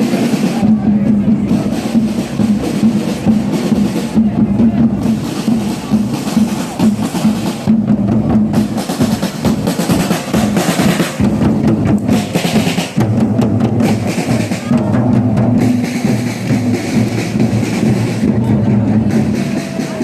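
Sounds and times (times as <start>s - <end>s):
snare drum beating: 1.5s - 20.0s.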